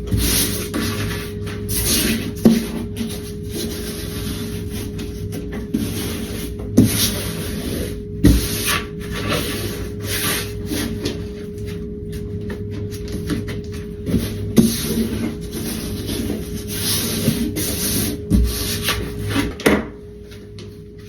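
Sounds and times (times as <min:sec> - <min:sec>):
steady hum: 0:00.0 - 0:21.0
wallpaper rubbing and scraping: 0:00.0 - 0:21.0.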